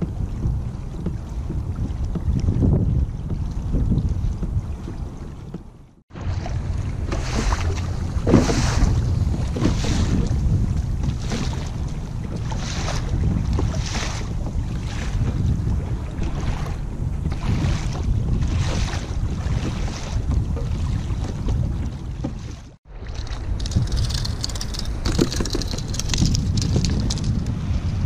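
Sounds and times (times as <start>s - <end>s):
water swishing against kayak hull: 0.0s - 28.0s
wind rumbling on microphone: 0.0s - 28.0s.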